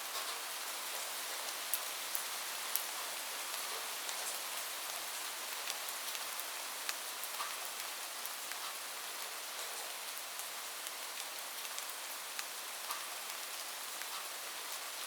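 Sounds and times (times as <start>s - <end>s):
rain on a roof: 0.0s - 15.0s.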